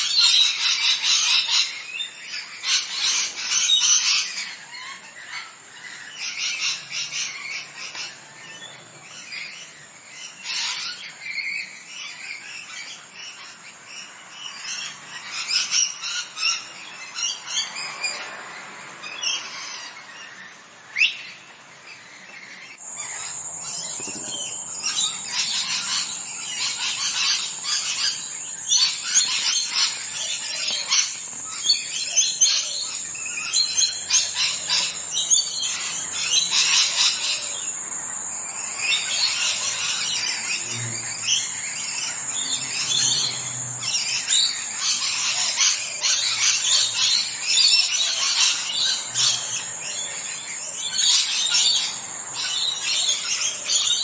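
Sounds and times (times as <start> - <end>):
parrots chirping and chattering: 0.0 - 54.0.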